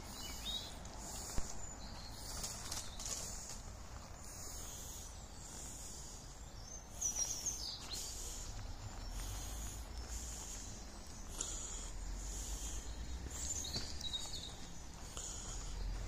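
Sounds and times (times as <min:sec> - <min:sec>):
bird chirping: 0:00.0 - 0:16.0
high-pitched insect hum: 0:00.0 - 0:16.0.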